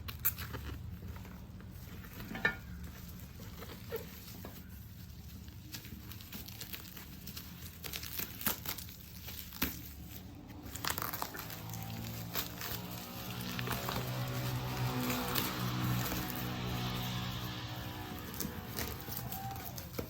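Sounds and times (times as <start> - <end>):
plastic wrapping crinkling: 0.0 - 20.0.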